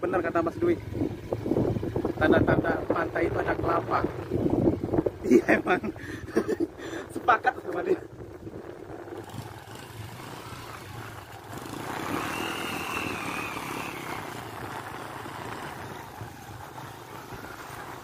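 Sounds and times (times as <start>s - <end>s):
small motorcycle engines: 0.0s - 18.0s.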